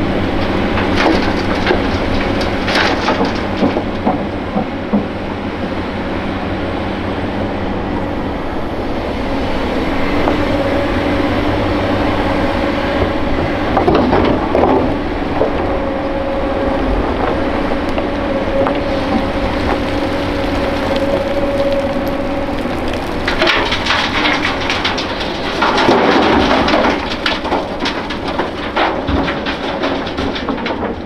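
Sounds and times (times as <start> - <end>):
clatter and scraping: 0.0 - 5.7, 10.2 - 31.0
excavator diesel engine running: 0.0 - 31.0.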